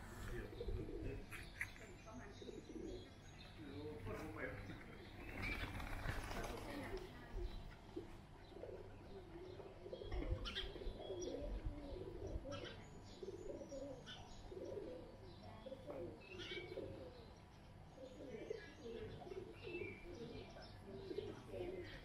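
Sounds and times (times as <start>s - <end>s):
doves cooing: 0.0s - 22.0s.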